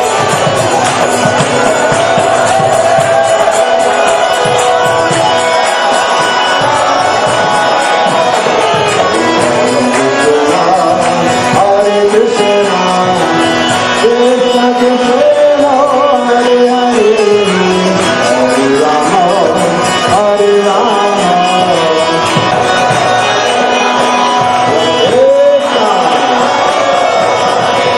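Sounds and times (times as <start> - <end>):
hand drum and cymbal percussion: 0.0 - 27.9
held instrumental notes: 0.0 - 27.9
person singing devotional melody: 0.0 - 27.9.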